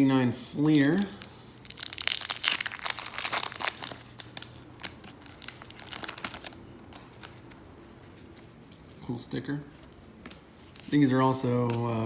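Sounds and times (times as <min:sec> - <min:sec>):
wax paper wrapper crinkling: 0:00.6 - 0:12.0.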